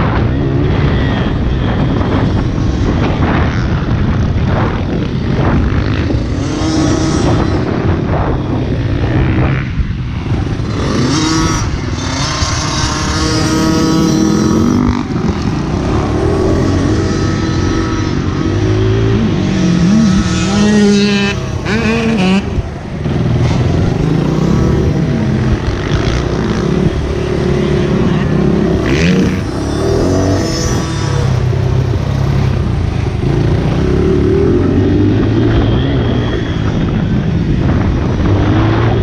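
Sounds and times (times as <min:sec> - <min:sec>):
motorbike engine revving: 0:00.0 - 0:39.0.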